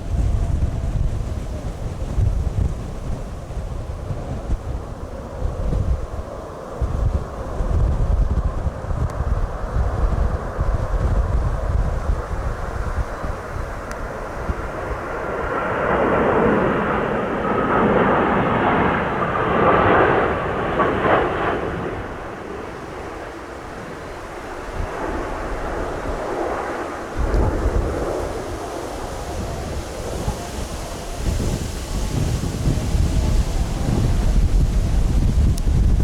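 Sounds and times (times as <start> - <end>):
jet airliner passing low: 0.0 - 36.0
wind rumbling on microphone: 0.0 - 36.0.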